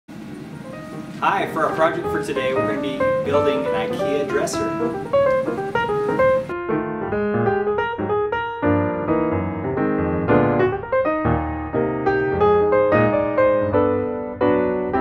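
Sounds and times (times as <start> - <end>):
piano background music: 0.1 - 15.0.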